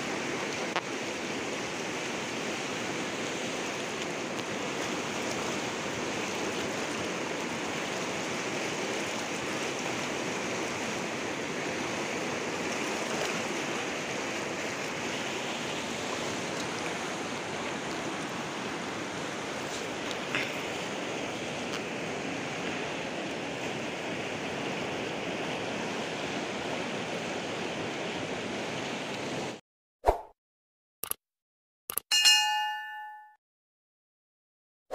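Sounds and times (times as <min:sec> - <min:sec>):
flowing water rushing: 0:00.0 - 0:29.6.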